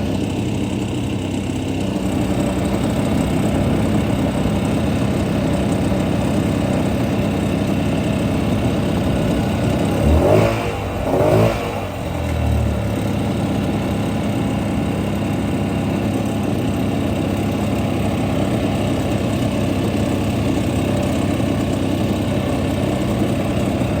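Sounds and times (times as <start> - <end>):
engine blips: 0.0 - 24.0
jet ski engine idling: 0.0 - 24.0.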